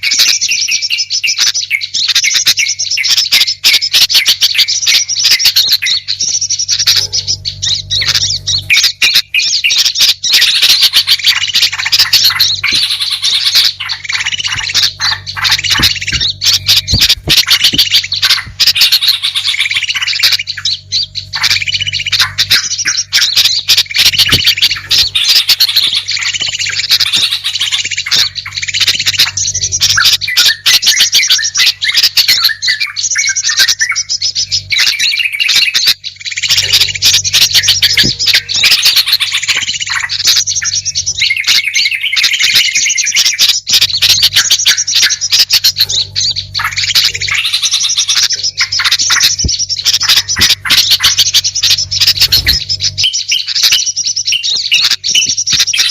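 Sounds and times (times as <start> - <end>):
chorus of songbird chirps and trills: 0.0 - 55.9.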